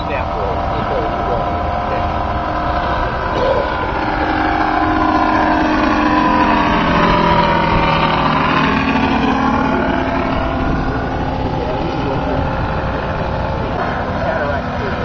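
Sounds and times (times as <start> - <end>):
model plane radial engine passing: 0.0 - 15.0.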